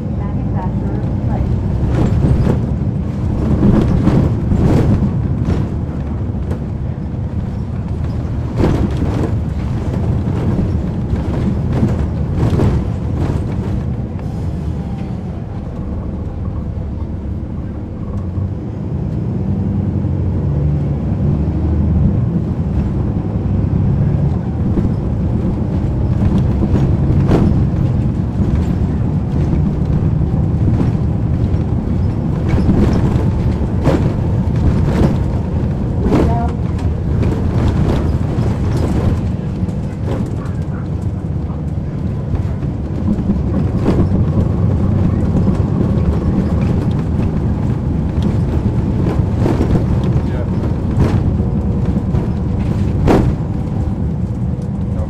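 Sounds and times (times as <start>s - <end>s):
bus body knocking and rattling: 0.0s - 55.0s
bus diesel engine running: 0.0s - 55.0s.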